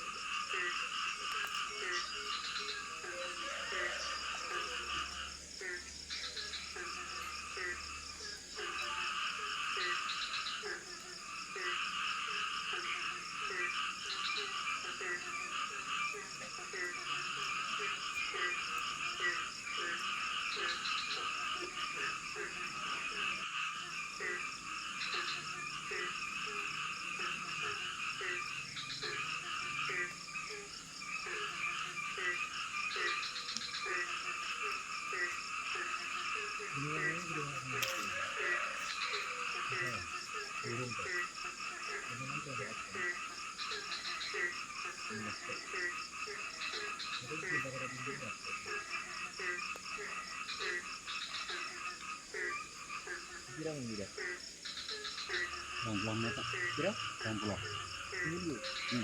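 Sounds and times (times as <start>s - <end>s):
high insect buzz: 0.0s - 59.0s
high pulsing frog calls: 0.0s - 59.0s
low frog croak: 0.0s - 59.0s.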